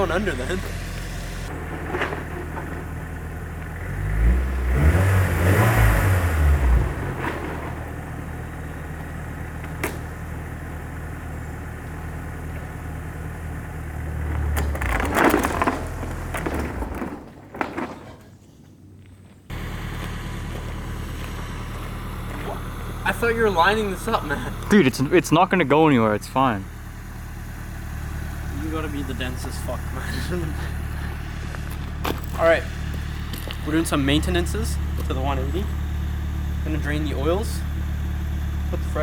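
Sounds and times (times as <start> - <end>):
car engine idling and revving: 0.0 - 16.9, 19.5 - 39.0.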